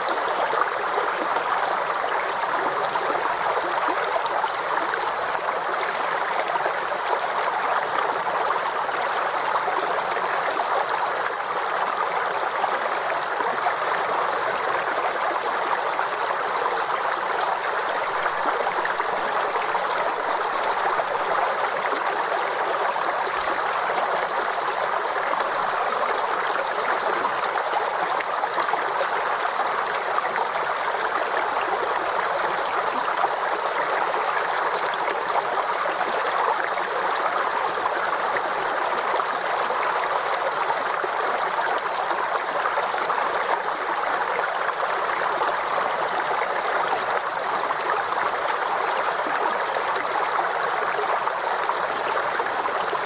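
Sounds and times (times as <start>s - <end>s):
stream flowing and gurgling: 0.0s - 53.0s.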